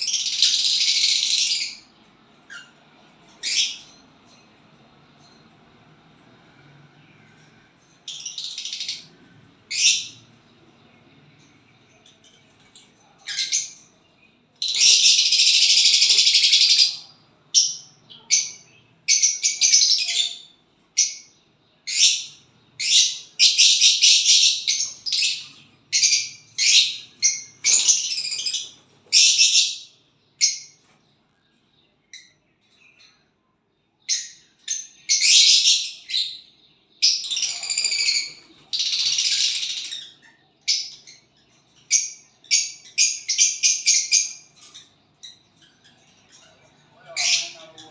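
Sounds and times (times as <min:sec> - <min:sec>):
small bird chirping: 0:00.0 - 0:05.5, 0:06.5 - 0:47.9.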